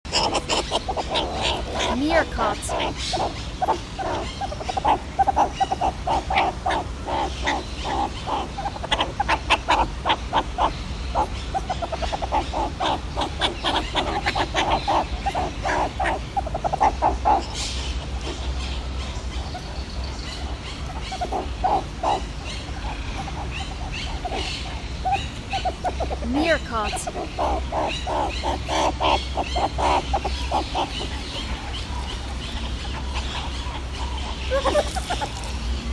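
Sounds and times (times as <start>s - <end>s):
low background hum: 0.1s - 35.9s
meerkat chirping calls: 0.1s - 35.9s.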